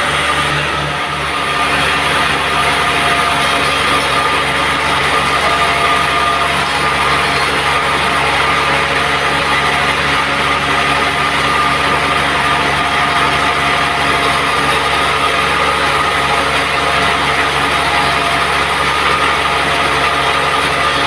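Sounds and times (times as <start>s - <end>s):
sawmill machinery drone: 0.0s - 21.0s.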